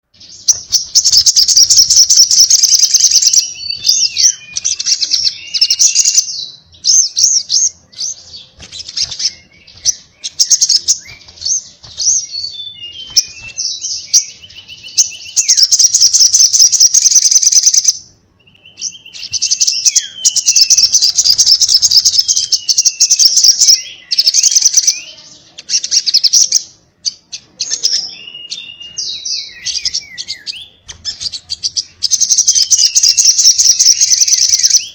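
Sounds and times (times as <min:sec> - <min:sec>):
bird rapid high chirps: 0:00.1 - 0:34.9.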